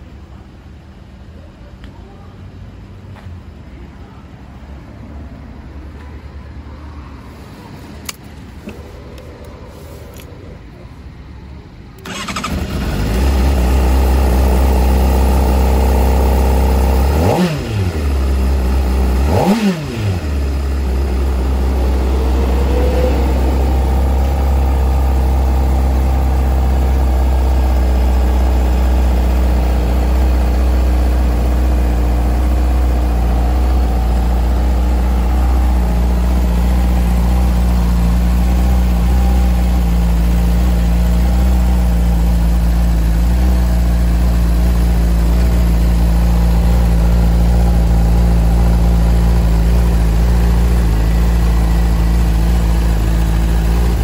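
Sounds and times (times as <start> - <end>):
motorcycle engine starting and idling: 7.9 - 54.0.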